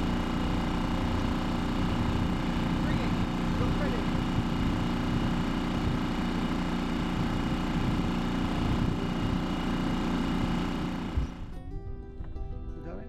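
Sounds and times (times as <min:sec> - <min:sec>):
outboard motor running: 0:00.0 - 0:11.6.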